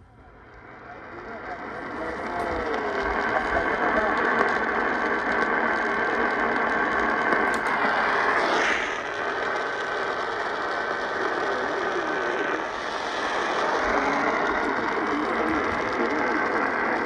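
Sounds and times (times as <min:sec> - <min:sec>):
crackling static and hiss: 0:00.0 - 0:17.0.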